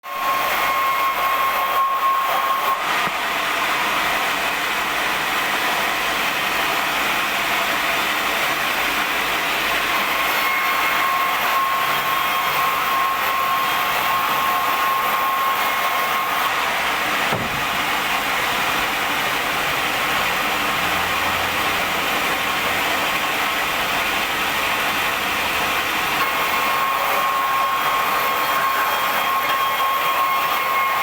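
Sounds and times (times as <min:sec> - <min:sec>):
high saw whine: 0:00.0 - 0:31.0
band sawmill running: 0:00.1 - 0:31.0.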